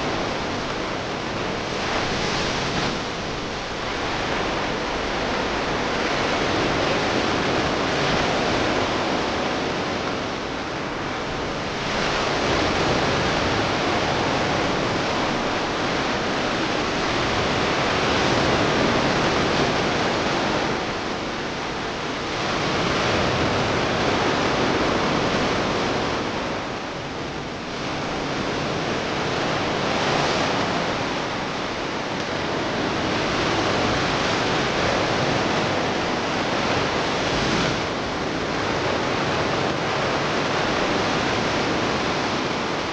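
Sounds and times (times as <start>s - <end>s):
sea surf washing onto shore: 0.0s - 42.9s.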